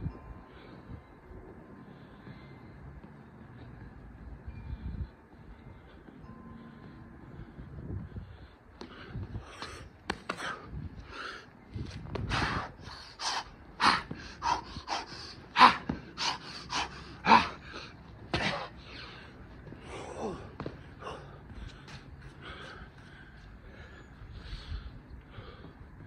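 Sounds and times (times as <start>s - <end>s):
man panting hard: 4.5s - 26.0s.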